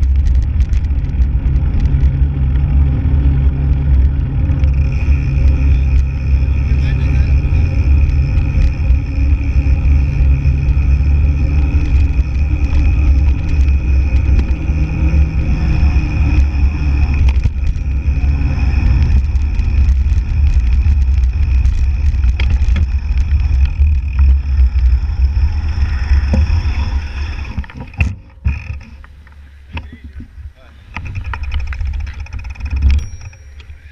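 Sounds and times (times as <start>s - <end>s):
small rattles and clicks: 0.0s - 30.3s, 30.9s - 33.9s
bike rolling over rough road: 0.0s - 33.9s.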